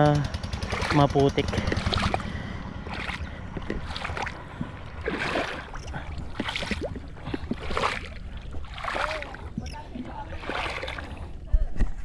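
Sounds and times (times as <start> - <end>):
muddy water sloshing and splashing: 0.0 - 12.0
steady low rumble: 0.0 - 12.0.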